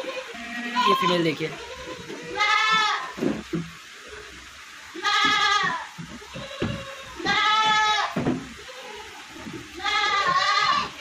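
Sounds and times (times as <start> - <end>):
young goats bleating: 0.0 - 3.2, 4.9 - 11.0.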